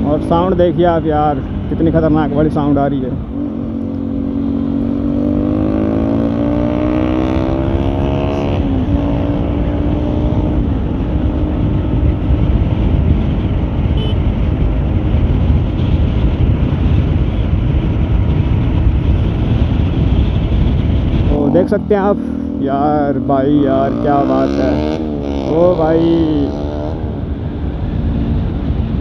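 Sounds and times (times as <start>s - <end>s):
motorcycle engine revving: 0.0s - 29.0s
wind rushing on microphone: 0.0s - 29.0s.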